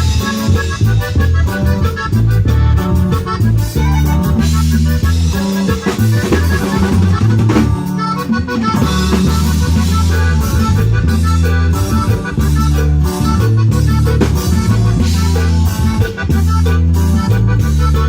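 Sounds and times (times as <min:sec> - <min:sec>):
accordion melody: 0:00.0 - 0:18.0
bass guitar: 0:00.0 - 0:18.0
drum kit beat: 0:00.0 - 0:18.0.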